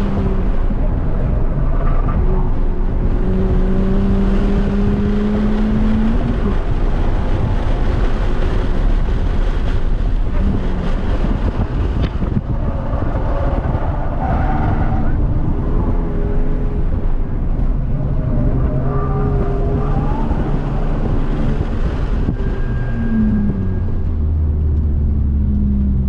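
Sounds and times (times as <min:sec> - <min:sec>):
car engine accelerating: 0:00.0 - 0:26.0
wind and road noise: 0:00.0 - 0:26.0.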